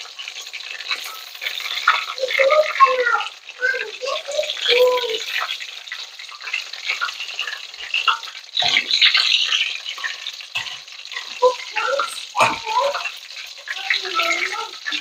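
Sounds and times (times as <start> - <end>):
oil bubbling and sizzling: 0.0 - 15.0.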